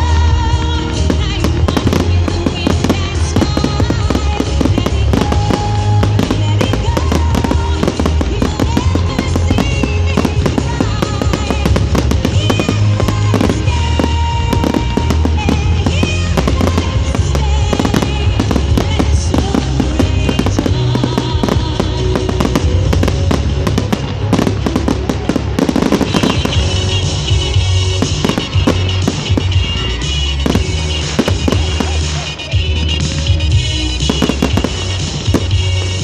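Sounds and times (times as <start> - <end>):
fireworks crackling and banging: 0.0 - 36.0
music playing: 0.0 - 36.0.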